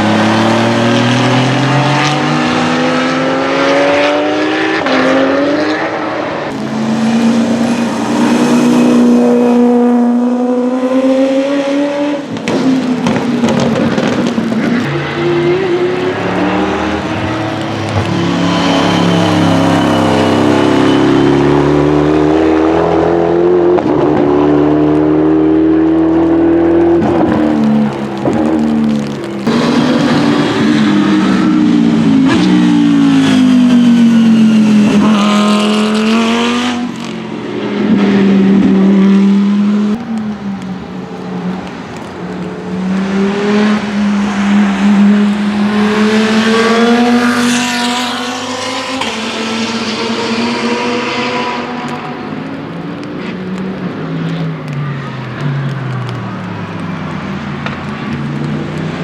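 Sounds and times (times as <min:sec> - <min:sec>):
racing cars passing at speed: 0:00.0 - 0:59.0.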